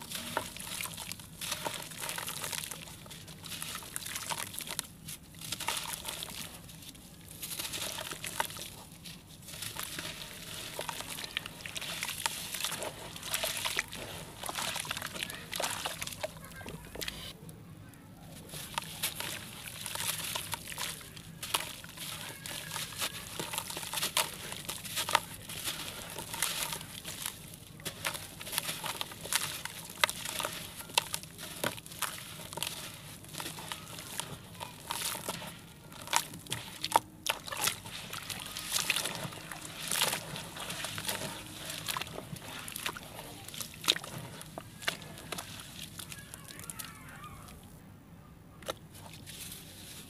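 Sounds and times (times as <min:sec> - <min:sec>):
water sloshing and dripping: 0:00.0 - 0:17.3, 0:18.5 - 0:47.8
chunks crunching and crackling: 0:00.0 - 0:17.4, 0:18.2 - 0:47.8.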